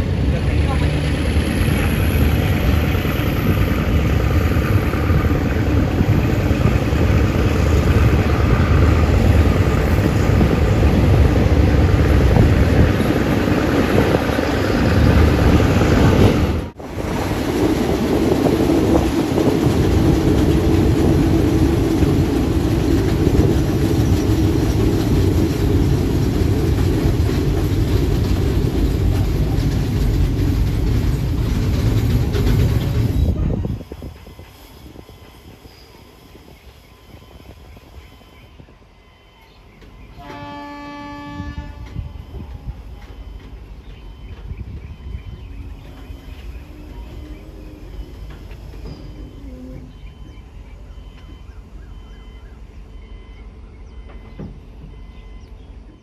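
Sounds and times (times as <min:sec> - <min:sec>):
train carriage rumbling on rails: 0:00.0 - 0:56.0.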